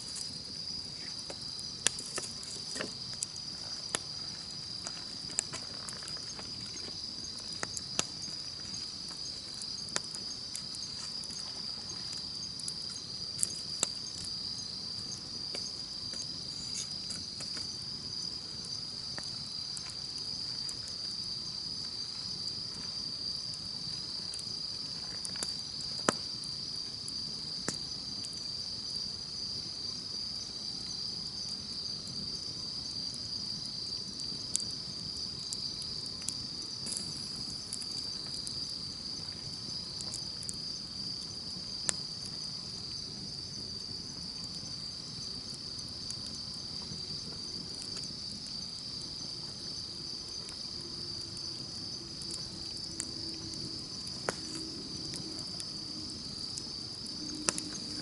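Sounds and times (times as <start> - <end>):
campfire crackling: 0.0 - 58.0
high-pitched insect chorus: 0.0 - 58.0.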